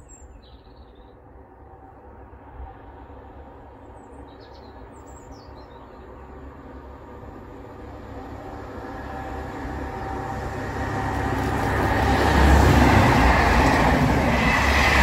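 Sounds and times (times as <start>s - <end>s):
train approaching: 0.0s - 15.0s.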